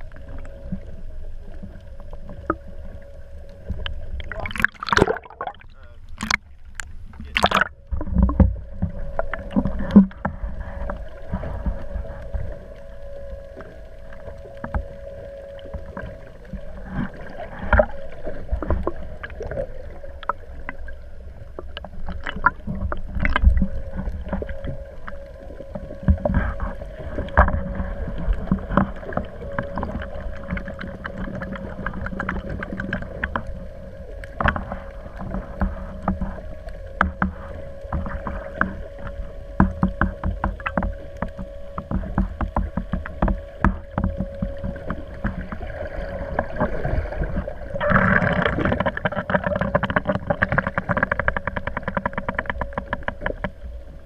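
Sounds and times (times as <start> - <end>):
boat motor hum: 0.0 - 54.0.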